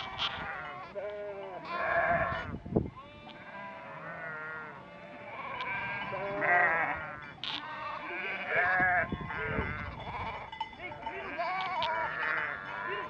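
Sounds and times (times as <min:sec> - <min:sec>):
flock of sheep bleating: 0:00.0 - 0:13.0.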